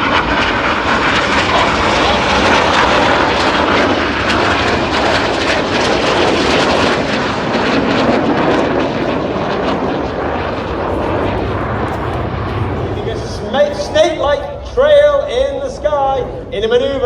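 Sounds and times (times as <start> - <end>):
jet roar: 0.0 - 17.0.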